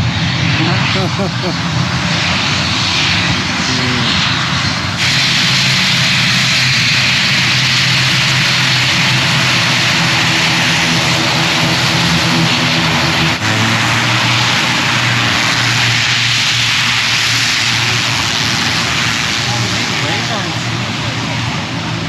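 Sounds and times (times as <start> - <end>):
turboprop engines running: 0.0 - 22.0.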